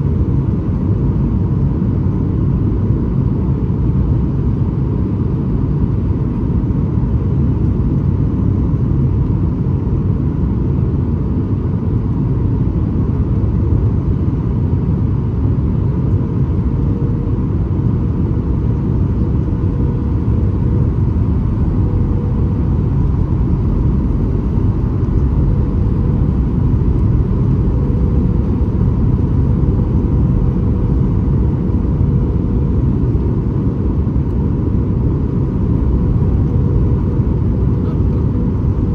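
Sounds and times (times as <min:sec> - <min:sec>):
airplane cabin rumble: 0:00.0 - 0:38.9
faint steady whine: 0:00.0 - 0:38.9.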